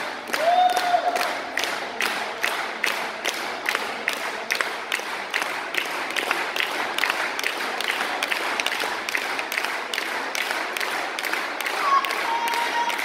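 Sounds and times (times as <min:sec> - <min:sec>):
crowd noise in echoing hall: 0:00.0 - 0:13.0
hands clapping rhythmically: 0:00.0 - 0:13.0.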